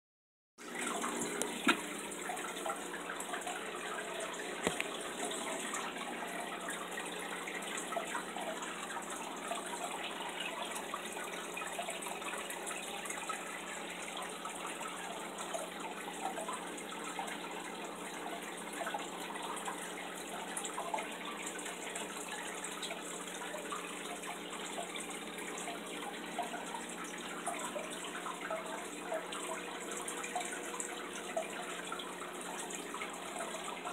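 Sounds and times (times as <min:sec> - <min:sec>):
aquarium water trickling: 0:00.6 - 0:33.9.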